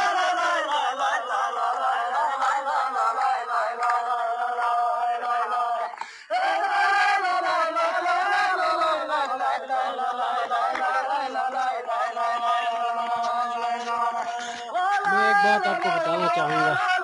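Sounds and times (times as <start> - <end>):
voices chanting held notes: 0.0 - 17.0.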